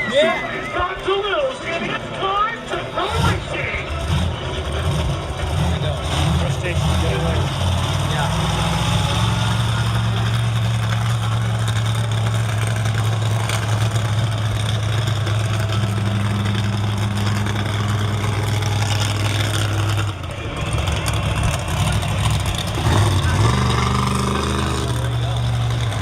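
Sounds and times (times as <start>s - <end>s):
loud truck engines running: 0.0s - 26.0s.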